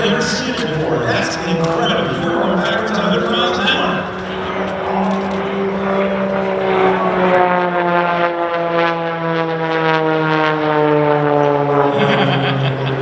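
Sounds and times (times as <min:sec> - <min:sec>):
plane engine and propeller: 0:00.0 - 0:13.0.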